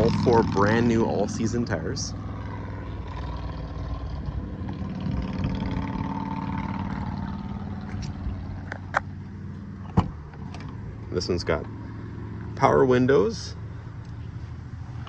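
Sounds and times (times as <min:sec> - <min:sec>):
small truck engine idling: 0:00.0 - 0:15.0.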